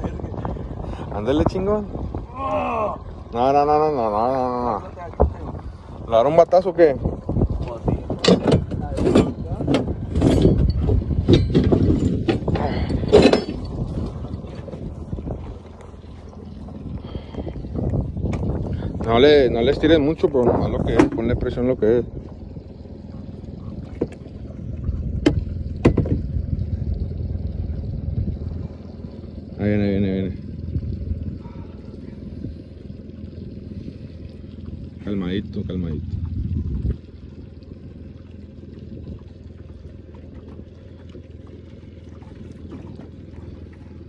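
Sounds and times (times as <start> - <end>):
boat low rumble: 0.0 - 44.0.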